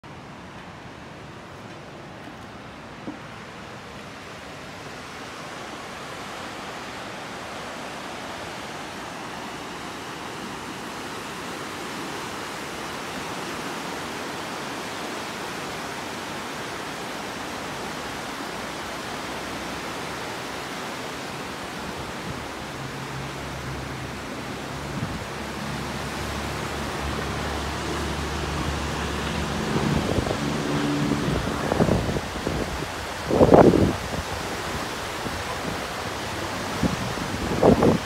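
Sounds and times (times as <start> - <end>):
river whitewater roaring: 0.0 - 38.0.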